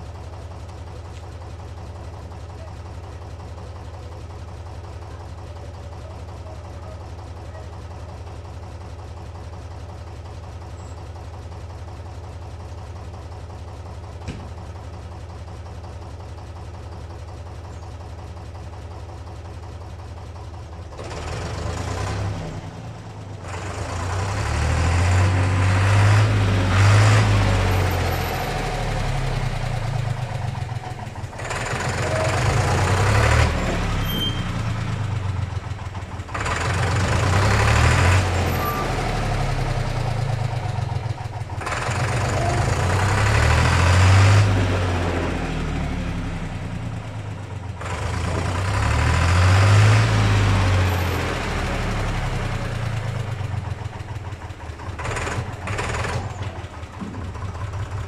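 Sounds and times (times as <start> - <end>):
tractor diesel engine: 0.0 - 58.0.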